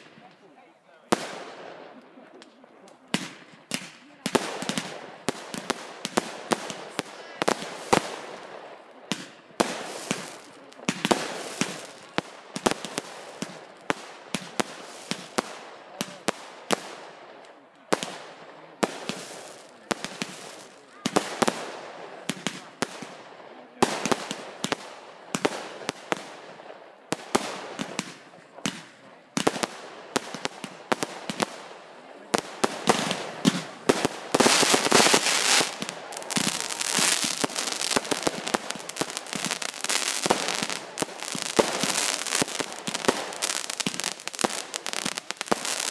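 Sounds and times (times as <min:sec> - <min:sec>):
fireworks bangs: 0:01.0 - 0:45.9.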